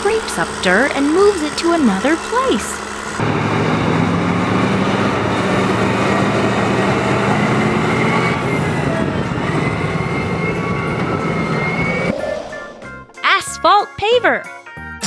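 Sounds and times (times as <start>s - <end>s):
heavy diesel engine running: 0.0s - 12.1s.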